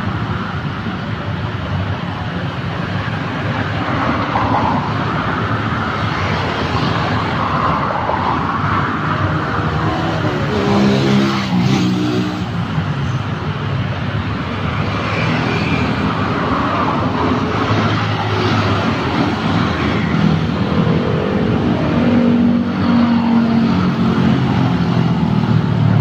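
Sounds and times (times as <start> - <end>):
constant rushing noise: 0.0 - 26.0
vehicles passing: 0.0 - 26.0.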